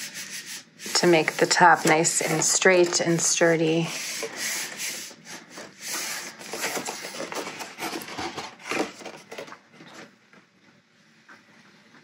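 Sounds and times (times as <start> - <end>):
cardstock paper scraping and rustling: 0.0 - 10.1.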